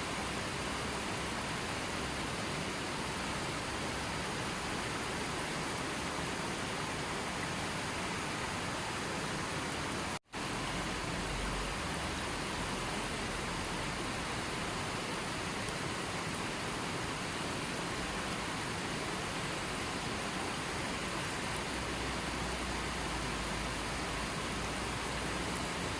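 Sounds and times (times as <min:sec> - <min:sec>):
rain or falling water: 0:00.0 - 0:25.9.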